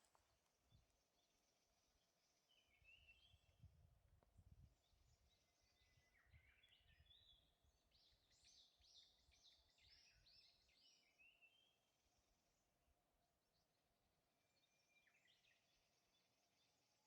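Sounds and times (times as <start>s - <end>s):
songbird chirps: 0.0s - 12.8s, 13.5s - 17.0s.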